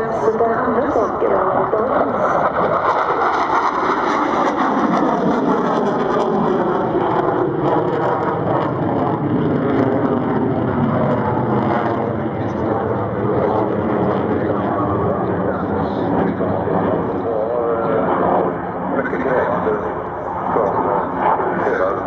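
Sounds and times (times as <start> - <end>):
jet aircraft passing overhead: 0.0 - 22.0.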